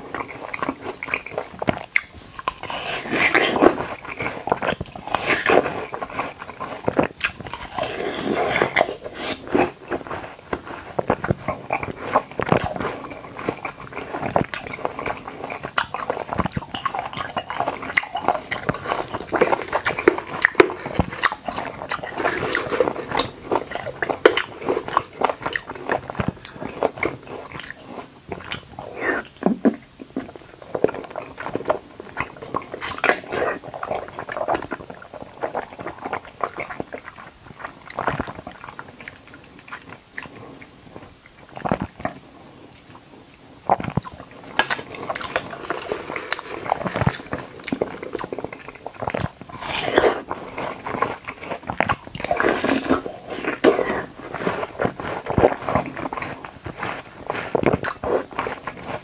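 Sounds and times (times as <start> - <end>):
person biting and wet chewing: 0.0 - 42.2, 43.7 - 59.0.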